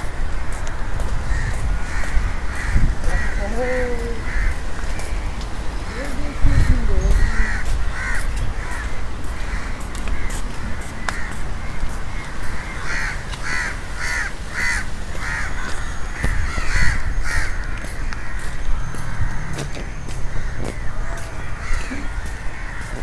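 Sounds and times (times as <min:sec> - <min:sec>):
birds making harsh calls: 0:00.0 - 0:23.0.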